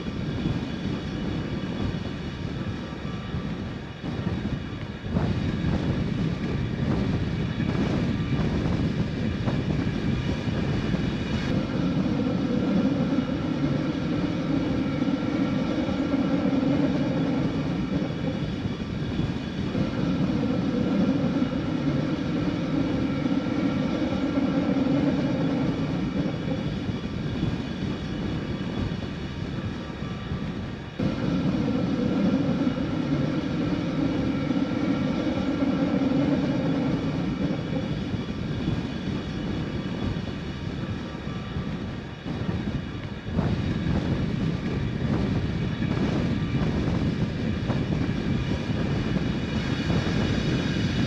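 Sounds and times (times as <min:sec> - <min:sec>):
drone propellers humming: 0:00.0 - 0:51.0
rush of air: 0:04.0 - 0:51.0.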